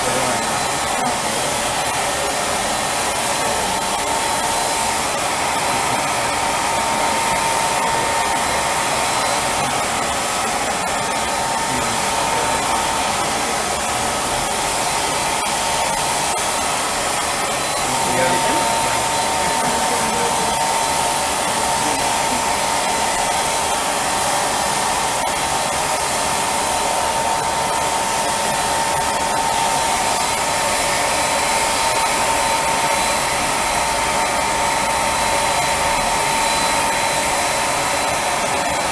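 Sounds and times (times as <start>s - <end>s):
blow dryer blowing: 0.0s - 38.9s
spray-tan gun airflow: 0.0s - 38.9s.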